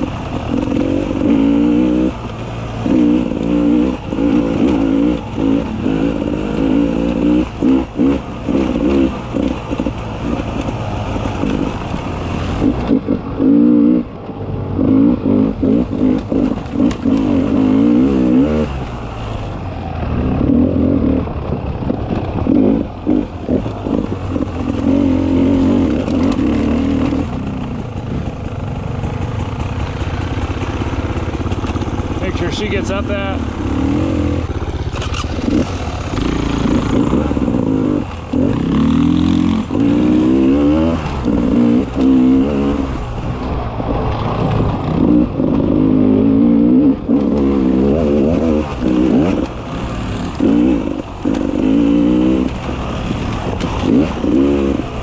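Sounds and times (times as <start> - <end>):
motorcycle knocks and rattles: 0.0 - 46.0, 47.0 - 55.0
motorcycle engine revving: 0.0 - 55.0.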